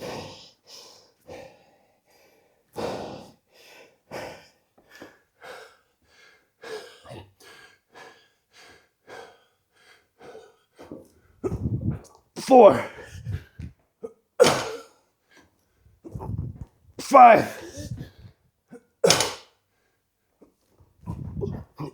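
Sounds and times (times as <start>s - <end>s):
man breathing heavily: 0.0s - 13.8s, 15.4s - 18.4s, 21.0s - 21.9s.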